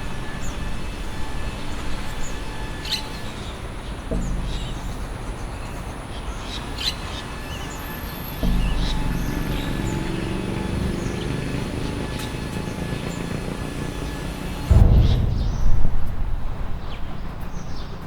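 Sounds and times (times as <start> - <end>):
low ambient rumble: 0.0 - 7.2, 8.4 - 18.0.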